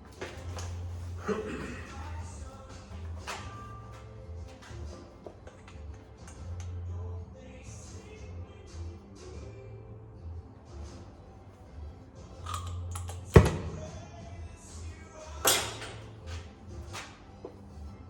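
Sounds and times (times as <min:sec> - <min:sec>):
background music with low pulse: 0:00.0 - 0:18.0.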